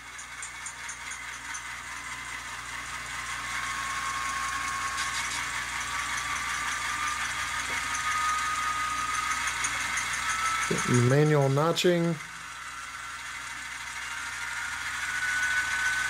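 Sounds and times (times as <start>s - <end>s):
model train diesel engine sound: 0.0s - 16.0s.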